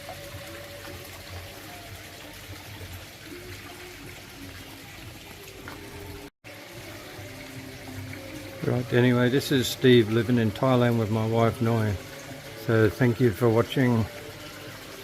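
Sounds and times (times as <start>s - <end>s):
water trickling into a pond: 0.0s - 15.0s.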